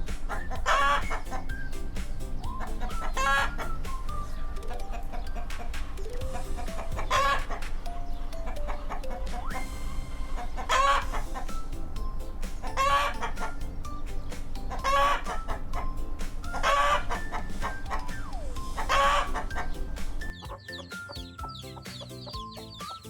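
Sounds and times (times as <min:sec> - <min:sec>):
chicken calling: 0:00.0 - 0:11.8, 0:12.4 - 0:13.8, 0:14.4 - 0:23.0
light background music: 0:00.0 - 0:23.0.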